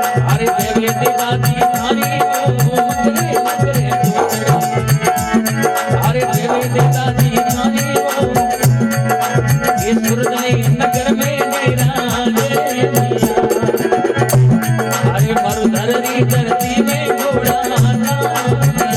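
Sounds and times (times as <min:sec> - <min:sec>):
hand drum percussion: 0:00.0 - 0:18.9.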